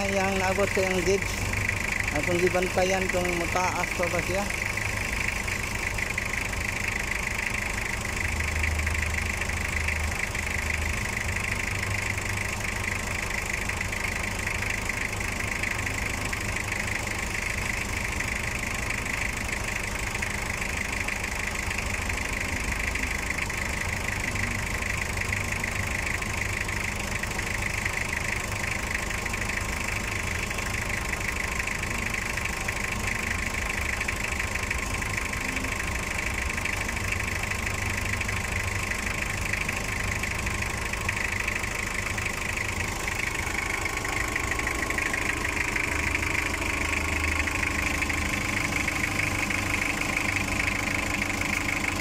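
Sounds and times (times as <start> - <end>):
diesel engine idling: 0.0 - 52.0.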